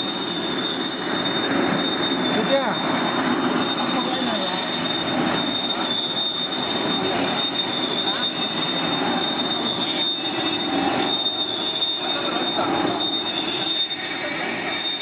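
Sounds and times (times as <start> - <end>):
mixer machine running with whine: 0.0 - 15.0.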